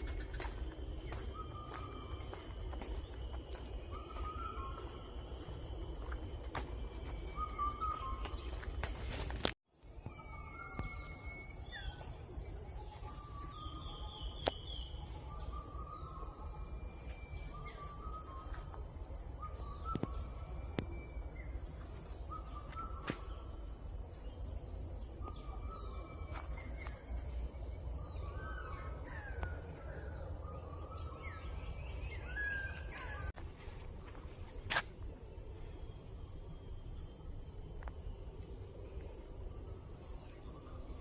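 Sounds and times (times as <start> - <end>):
forest birds calling: 0.0 - 9.5, 10.1 - 41.0.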